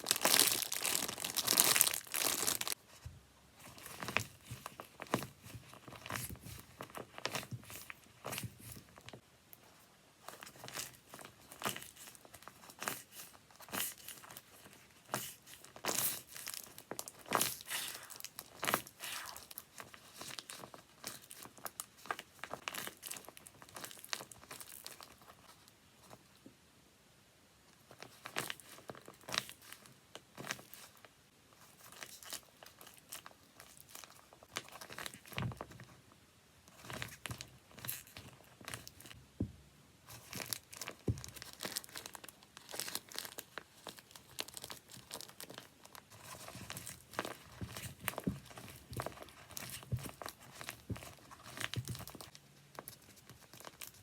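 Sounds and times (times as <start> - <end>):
paper and tape crinkling: 0.0 - 26.2, 27.9 - 36.0, 40.1 - 54.0.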